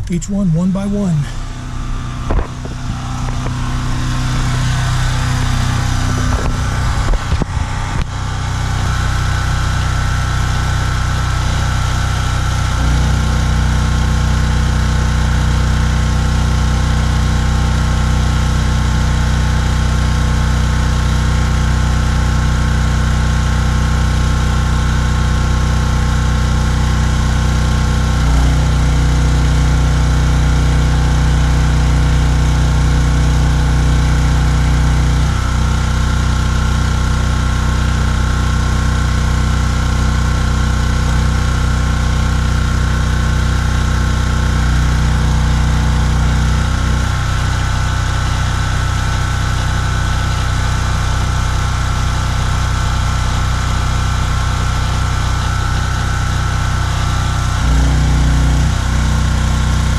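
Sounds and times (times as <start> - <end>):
generator engine running: 0.0 - 59.9.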